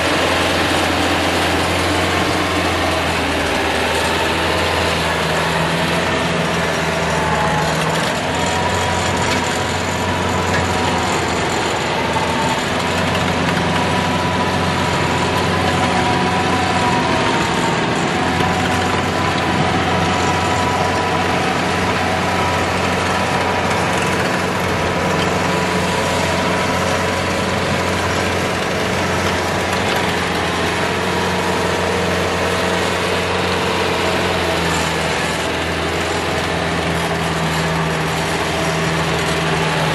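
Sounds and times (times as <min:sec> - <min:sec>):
rotary tiller blades churning soil: 0:00.0 - 0:39.9
tractor diesel engine running: 0:00.0 - 0:39.9.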